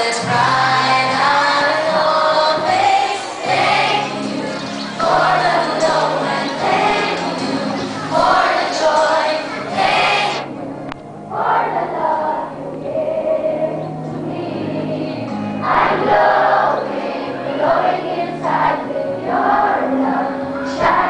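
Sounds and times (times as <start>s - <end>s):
children's choir singing: 0.0s - 10.6s, 11.2s - 21.0s.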